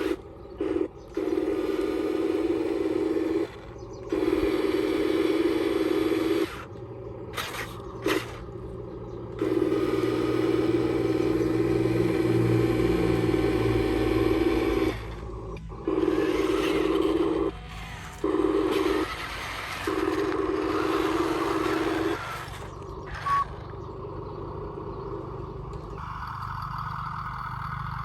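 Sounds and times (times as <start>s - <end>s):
electric motors whirring: 0.0s - 28.0s.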